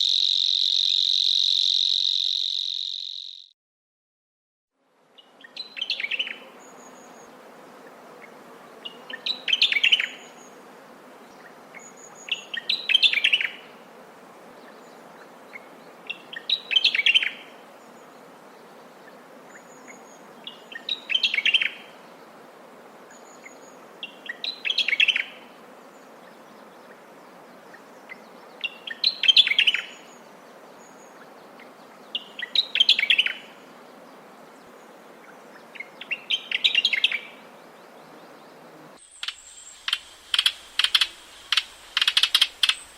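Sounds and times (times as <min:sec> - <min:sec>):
grasshopper warbler singing: 0:00.0 - 0:03.6, 0:05.2 - 0:10.6, 0:11.2 - 0:22.4, 0:23.0 - 0:42.9
faint background hiss: 0:04.8 - 0:42.9.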